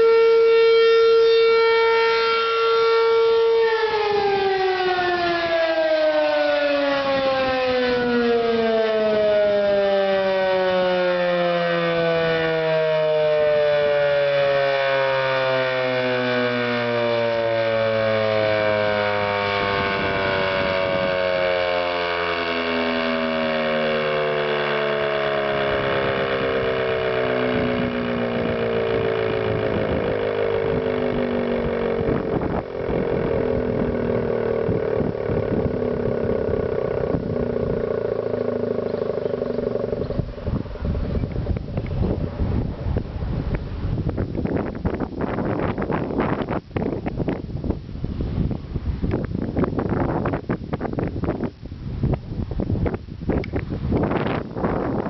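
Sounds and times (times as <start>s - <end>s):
tornado siren winding down: 0.0s - 55.0s.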